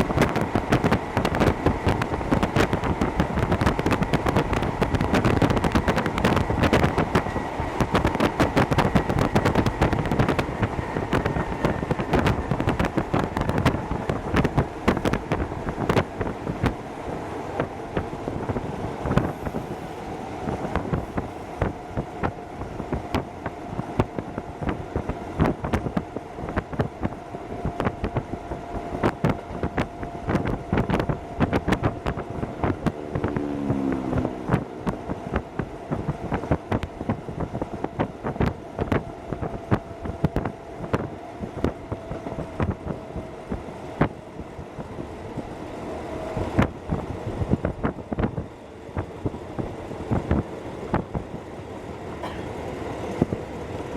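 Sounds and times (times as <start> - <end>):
steady train whine: 0.0 - 53.9
train wheels clacking on rails: 0.0 - 53.9.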